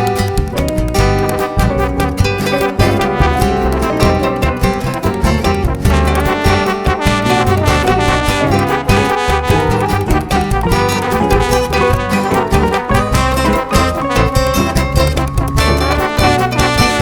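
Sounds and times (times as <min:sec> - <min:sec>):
upbeat jazzy music with brass: 0:00.0 - 0:17.0.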